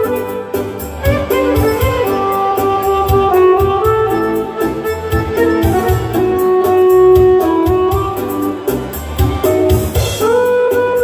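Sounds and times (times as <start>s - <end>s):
lead melody: 0.0s - 11.0s
steady drum beat: 0.0s - 11.0s.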